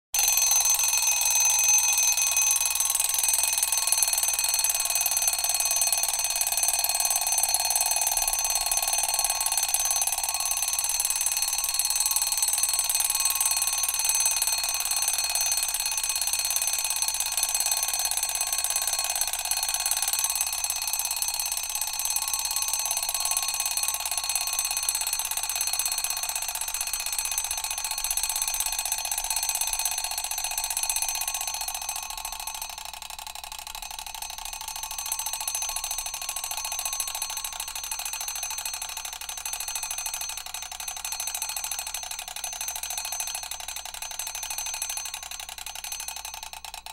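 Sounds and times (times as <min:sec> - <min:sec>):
alarm clock bell ringing: 0:00.2 - 0:46.9.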